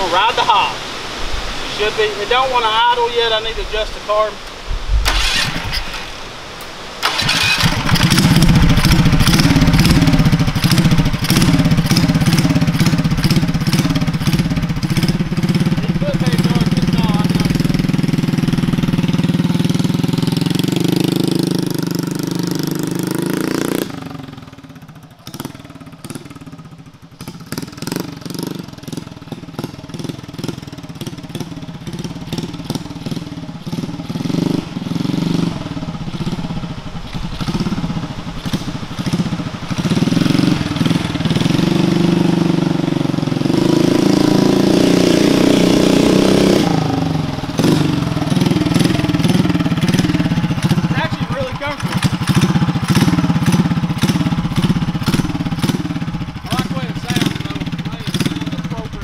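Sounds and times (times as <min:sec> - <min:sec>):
motorcycle engine running: 0:07.0 - 0:59.0.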